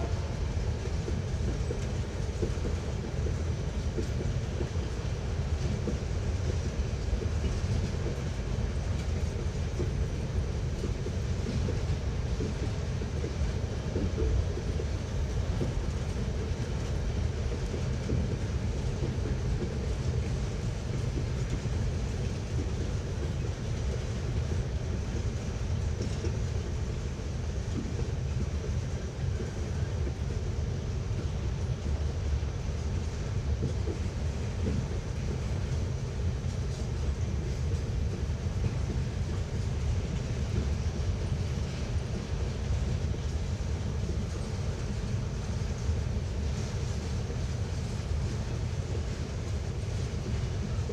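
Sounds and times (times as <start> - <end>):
freight train wheels rumbling on rails: 0.0 - 50.9.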